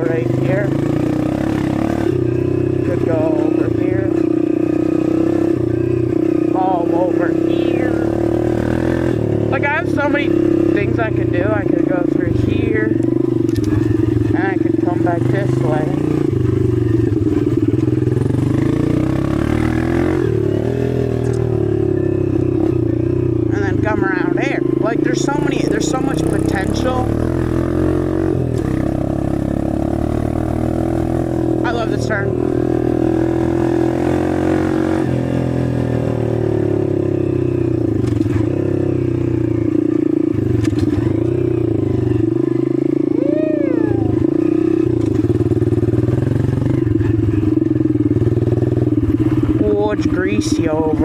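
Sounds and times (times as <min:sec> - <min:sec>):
dirt bike engine running: 0:00.0 - 0:51.0.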